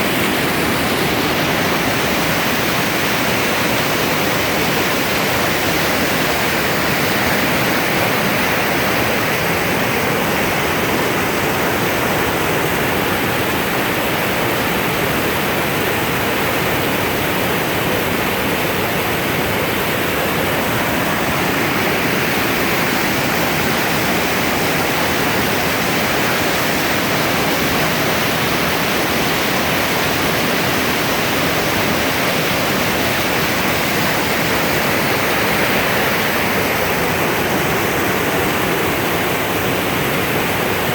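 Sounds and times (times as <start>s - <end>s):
river rushing over rapids: 0.0s - 40.9s.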